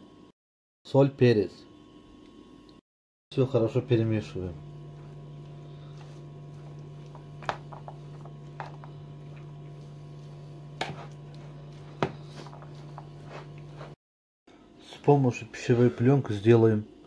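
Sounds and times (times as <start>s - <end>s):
low electrical hum: 0.9s - 17.0s.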